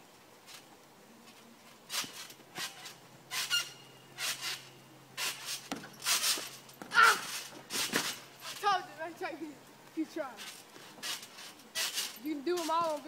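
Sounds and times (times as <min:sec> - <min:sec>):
trampoline springs creaking: 0:00.0 - 0:13.0.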